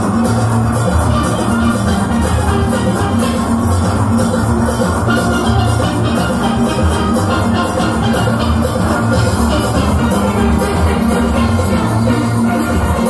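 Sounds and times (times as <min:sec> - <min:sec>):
drum kit and percussion beat: 0:00.0 - 0:13.0
steel pans playing: 0:00.0 - 0:13.0.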